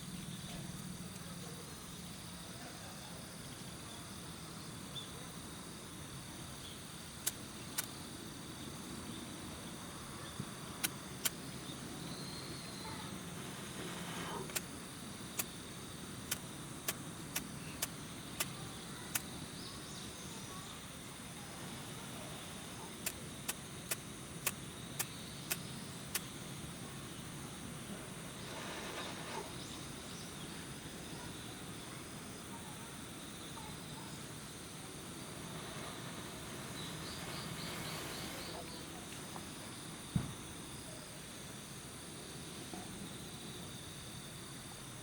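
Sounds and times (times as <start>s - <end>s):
low hiss: 0.0s - 45.0s.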